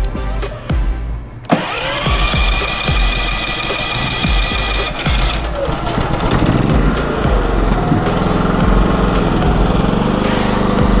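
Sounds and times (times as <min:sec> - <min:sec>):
generator starter cranking: 0:01.4 - 0:10.8
generator engine running: 0:01.5 - 0:11.0.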